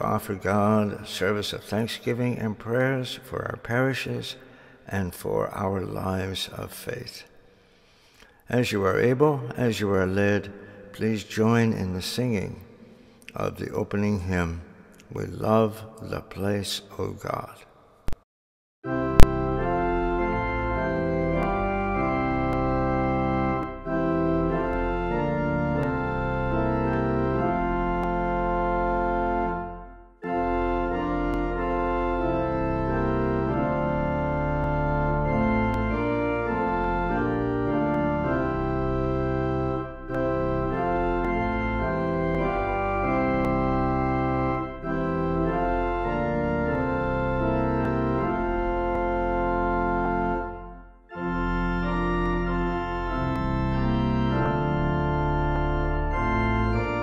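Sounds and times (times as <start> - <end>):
organ playing a slow hymn: 0.0 - 17.5, 18.9 - 57.0.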